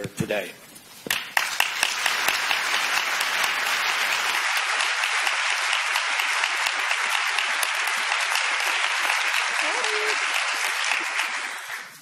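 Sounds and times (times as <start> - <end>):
audience applauding: 1.1 - 12.0.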